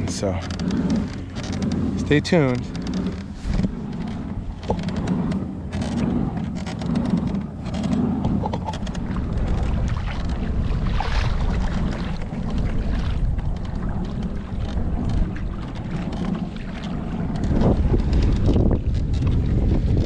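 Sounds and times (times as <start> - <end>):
water sloshing around kayak: 0.0 - 20.0
wind buffeting microphone: 0.0 - 20.0.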